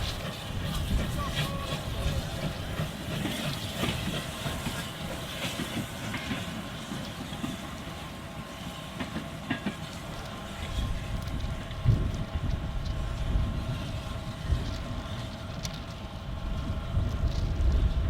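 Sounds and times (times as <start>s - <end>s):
train rumbling on tracks: 0.0s - 18.0s.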